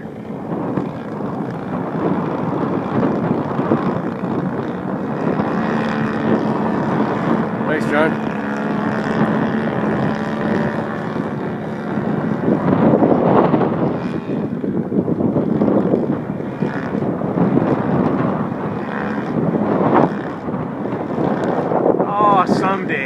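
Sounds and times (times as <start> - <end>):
model plane engine drone: 0.0 - 23.0
wind buffeting microphone: 0.0 - 23.0.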